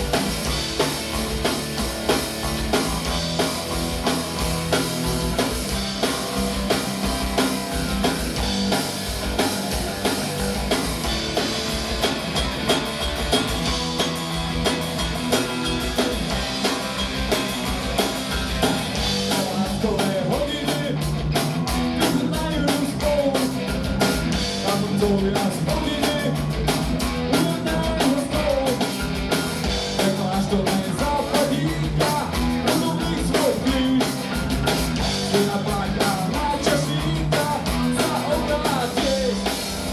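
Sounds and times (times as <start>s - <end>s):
drum kit fast beat: 0.0s - 39.9s
electric guitars and bass: 0.0s - 39.9s.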